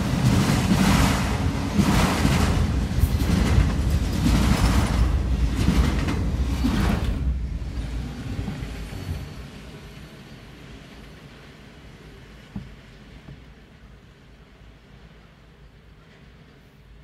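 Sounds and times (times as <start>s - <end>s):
freight train rumbling past: 0.0s - 17.0s
train rattles and clanks: 0.0s - 17.0s.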